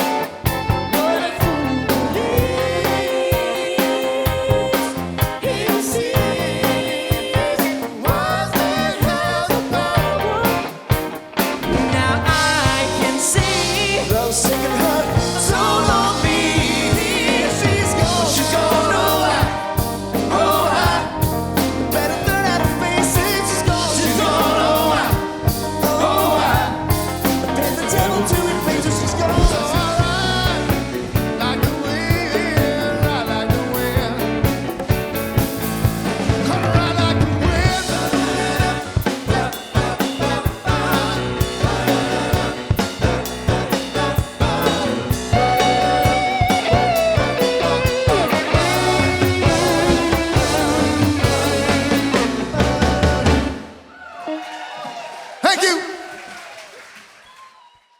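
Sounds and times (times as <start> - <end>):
drum kit: 0.0 - 53.9
guitar: 0.0 - 54.4
person singing: 0.8 - 10.9, 11.6 - 34.6, 36.4 - 54.0.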